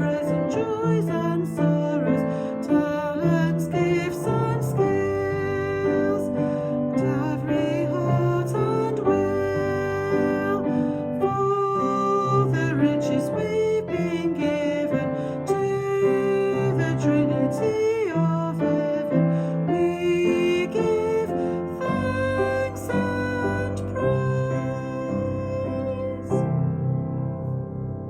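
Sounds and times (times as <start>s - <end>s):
person singing: 0.0s - 27.2s
piano accompaniment: 0.0s - 28.0s.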